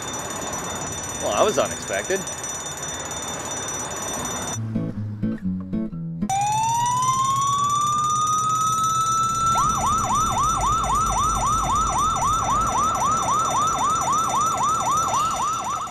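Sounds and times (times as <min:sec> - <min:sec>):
police car siren wailing: 0:00.0 - 0:04.6, 0:06.3 - 0:15.9.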